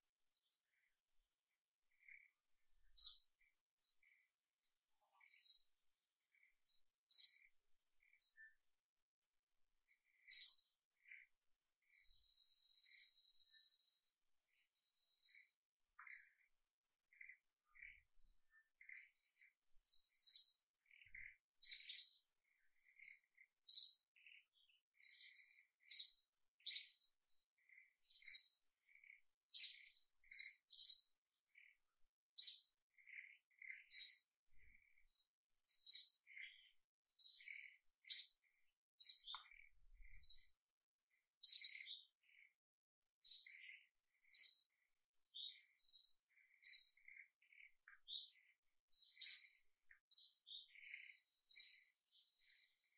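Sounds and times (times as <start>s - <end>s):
bird chirping: 0.0s - 52.9s.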